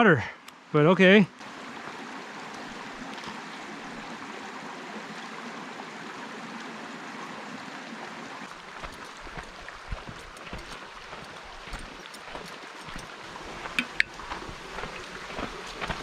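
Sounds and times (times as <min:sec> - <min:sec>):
water running over rocks: 0:01.4 - 0:16.0.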